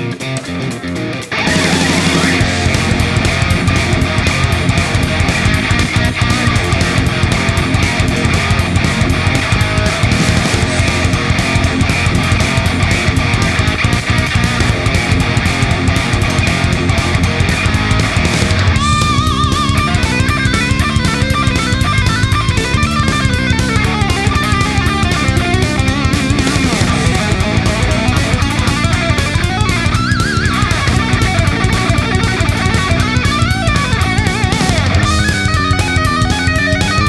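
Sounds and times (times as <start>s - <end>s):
distorted electric guitar: 0.0s - 37.0s
fast drum beat: 0.0s - 37.0s.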